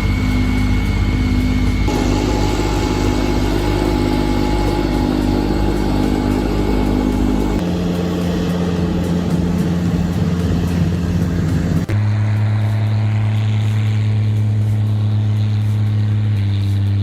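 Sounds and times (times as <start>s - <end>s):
machinery engine running under load: 0.0s - 17.0s.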